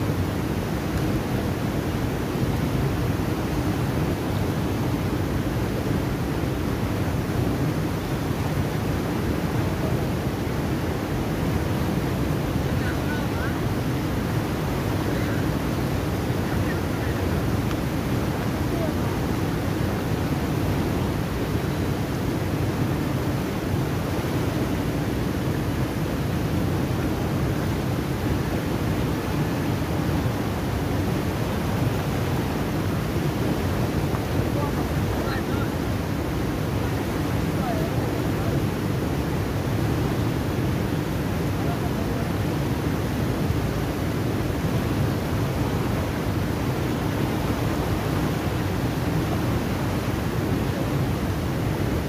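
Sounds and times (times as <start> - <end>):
water rushing into rapids: 0.0 - 52.0.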